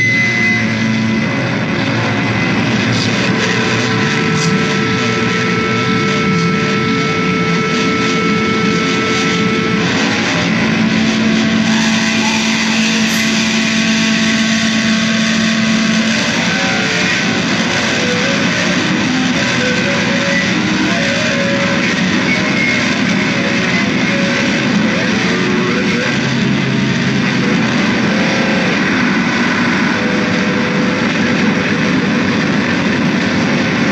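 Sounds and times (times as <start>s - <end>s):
distorted electric guitar noise music: 0.0s - 33.9s.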